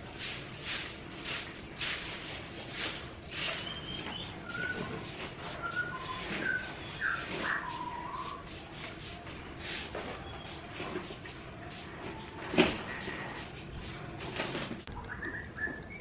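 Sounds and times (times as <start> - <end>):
outdoor background noise: 0.0 - 16.0
birds chirping: 0.5 - 16.0.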